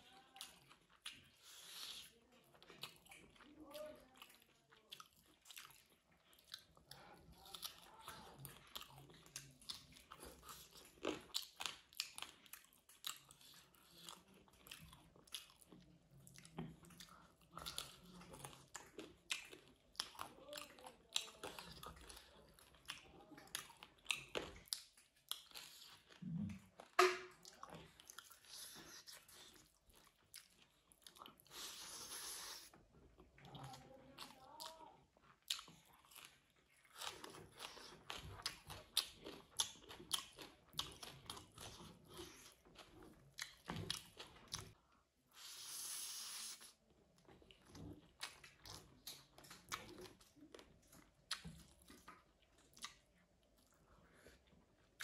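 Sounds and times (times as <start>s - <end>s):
person chewing food: 0.1s - 55.0s.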